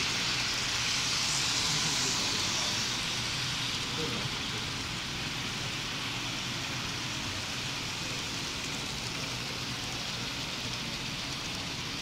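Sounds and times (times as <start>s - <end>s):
model train cars rolling on track: 0.0s - 12.0s.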